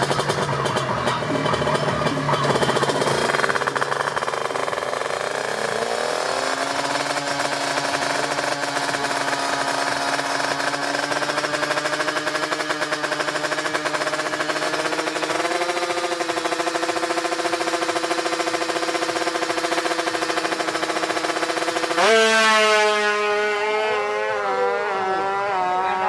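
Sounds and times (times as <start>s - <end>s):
two-stroke engine pulsing: 0.0s - 26.0s.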